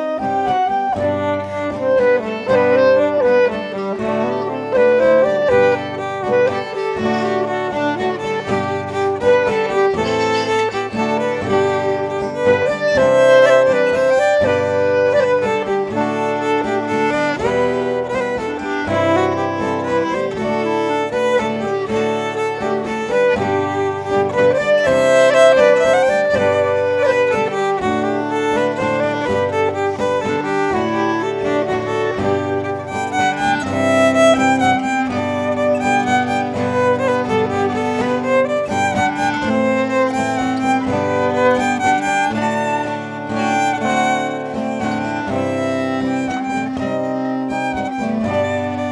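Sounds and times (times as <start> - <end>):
clarinet melody: 0.0 - 48.9
fiddle melody: 0.0 - 48.9
strummed acoustic guitar: 0.0 - 48.9.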